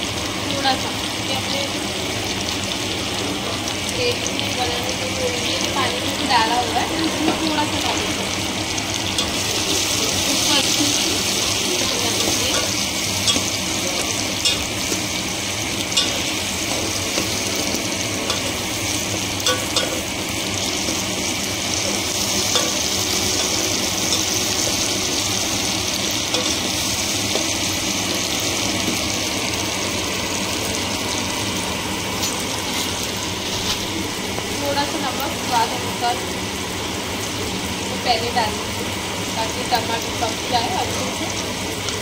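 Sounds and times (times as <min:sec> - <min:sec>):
food sizzling in oil: 0:00.0 - 0:42.0.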